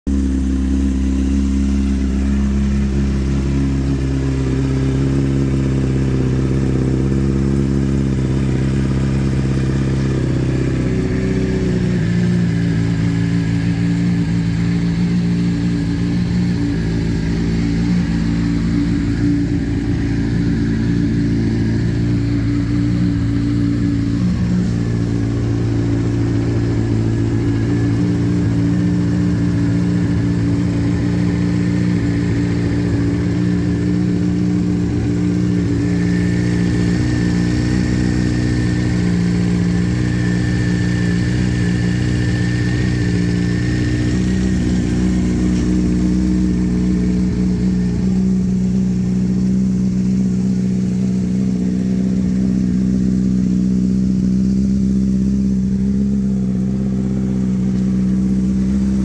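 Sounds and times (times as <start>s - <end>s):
motorcycle engine idling: 0.1s - 59.0s.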